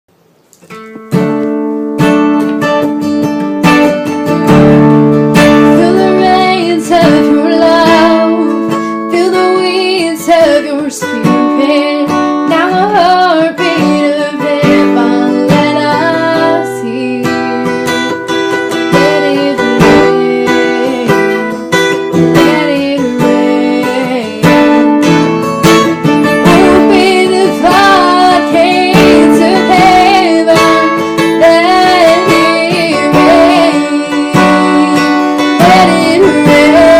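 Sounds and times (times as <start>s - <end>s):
acoustic guitar strumming: 0.6s - 36.9s
person singing: 5.6s - 25.2s, 26.2s - 36.9s.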